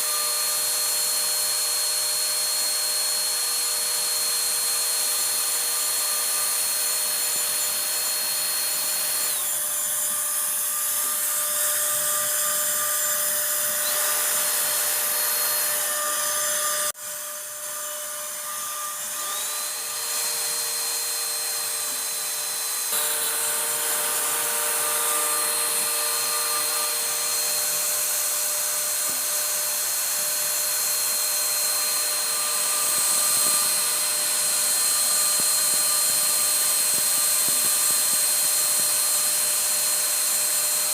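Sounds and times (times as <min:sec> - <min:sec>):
cnc router spindle whine: 0:00.0 - 0:40.9
hiss of cutting wood: 0:00.0 - 0:40.9.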